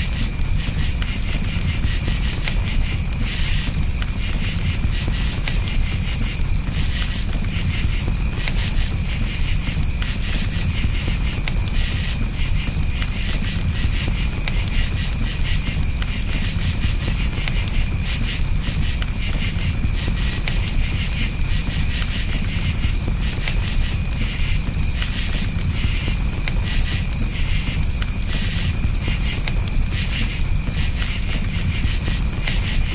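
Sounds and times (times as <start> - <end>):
campfire crackling and popping: 0.0 - 32.9
crickets chirping: 0.0 - 32.9.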